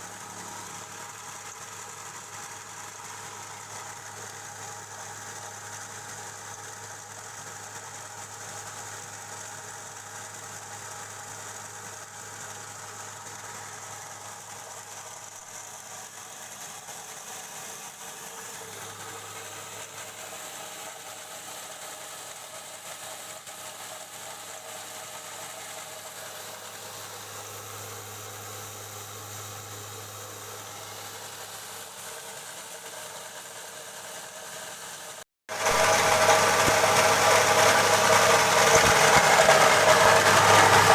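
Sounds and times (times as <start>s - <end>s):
machine hum: 0.0s - 40.9s.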